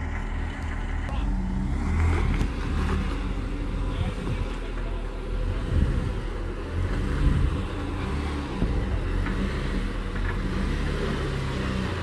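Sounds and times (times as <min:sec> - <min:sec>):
engine running low: 0:00.0 - 0:12.0.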